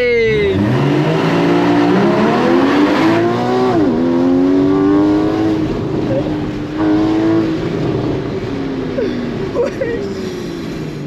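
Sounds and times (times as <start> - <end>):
car engine accelerating hard: 0.3 - 11.0.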